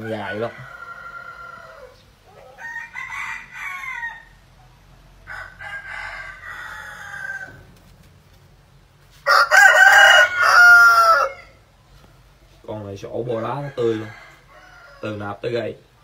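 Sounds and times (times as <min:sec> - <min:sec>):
roosters crowing: 0:00.0 - 0:08.0, 0:09.1 - 0:11.8, 0:13.0 - 0:15.8.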